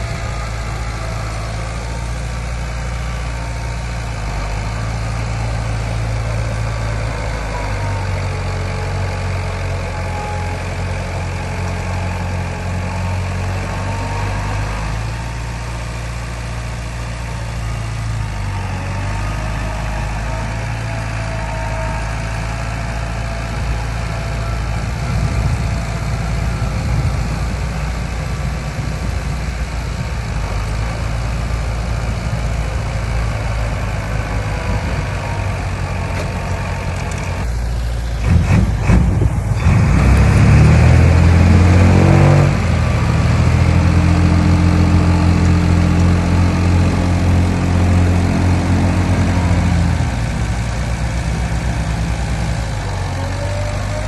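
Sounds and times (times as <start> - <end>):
heavy diesel engine: 0.0 - 54.0.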